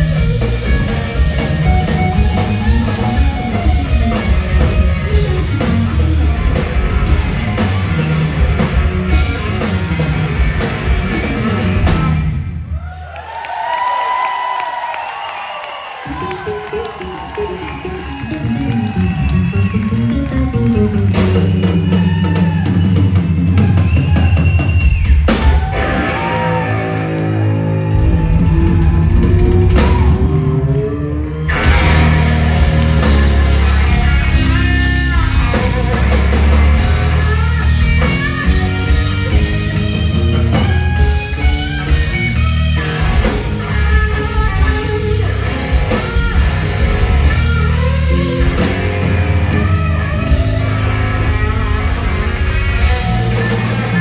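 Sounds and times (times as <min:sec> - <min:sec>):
drum kit: 0:00.0 - 0:12.7, 0:15.9 - 0:30.8, 0:31.4 - 0:54.0
electric guitar lead: 0:00.0 - 0:12.7, 0:16.0 - 0:24.0, 0:25.1 - 0:54.0
bass guitar: 0:00.0 - 0:12.9, 0:16.0 - 0:54.0.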